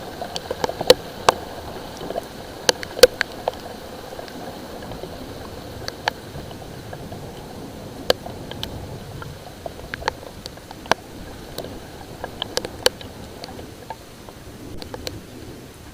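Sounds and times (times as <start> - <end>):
light rain hiss: 0.0 - 15.9
raindrops ticking on hard surface: 0.0 - 15.9.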